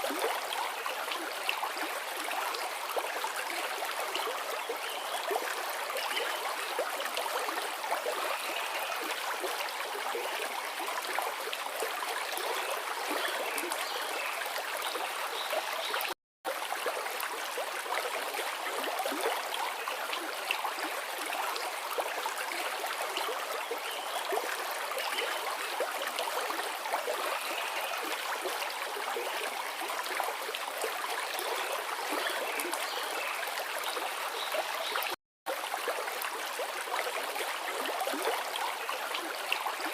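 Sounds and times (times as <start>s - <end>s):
river babbling water: 0.0s - 39.9s.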